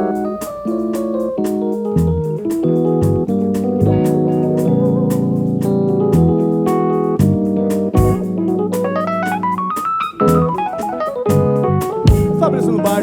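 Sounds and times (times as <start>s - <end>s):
keyboard solo: 0.0s - 13.0s.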